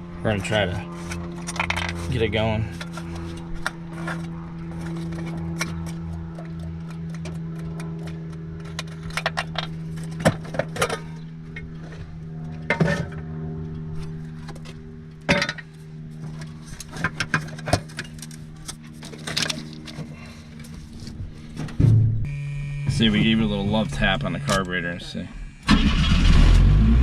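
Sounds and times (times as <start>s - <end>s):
engine running with steady hum: 0.0s - 27.0s.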